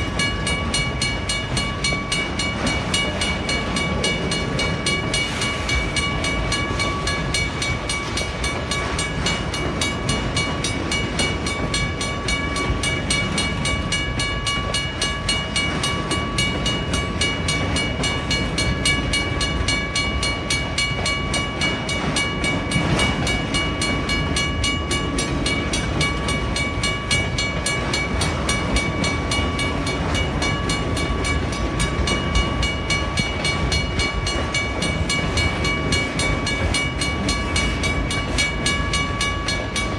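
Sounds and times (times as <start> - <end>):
mechanical crossing bell ringing: 0.0 - 39.9
train rumbling through crossing: 0.0 - 39.9.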